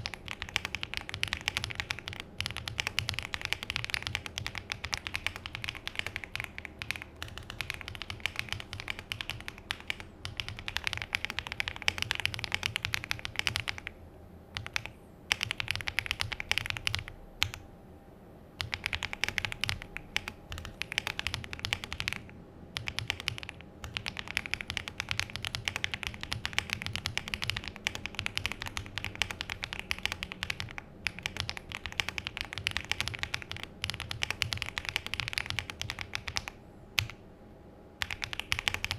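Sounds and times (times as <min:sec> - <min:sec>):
mechanical keyboard typing: 0:00.0 - 0:14.0, 0:14.6 - 0:17.6, 0:18.6 - 0:37.2, 0:38.0 - 0:38.9.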